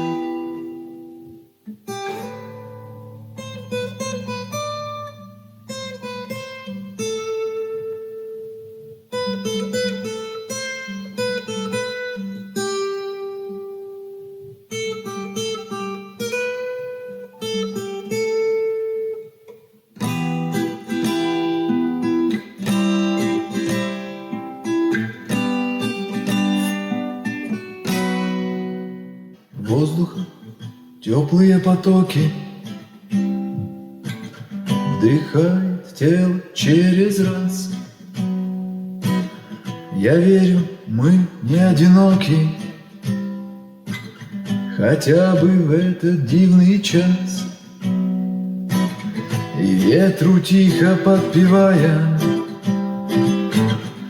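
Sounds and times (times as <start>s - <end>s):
acoustic guitar picking and strumming: 0.0s - 54.0s.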